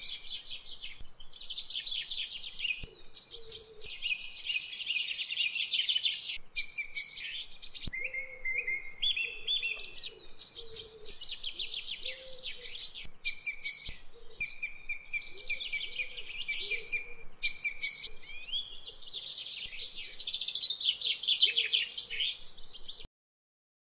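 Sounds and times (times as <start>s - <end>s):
birds chirping and trilling: 0.0s - 23.1s
fainter lower bird calls: 0.0s - 23.1s.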